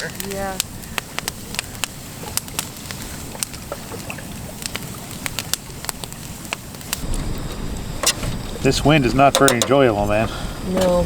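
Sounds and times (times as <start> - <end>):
campfire crackling and popping: 0.0 - 11.0
wind buffeting microphone: 0.0 - 11.0.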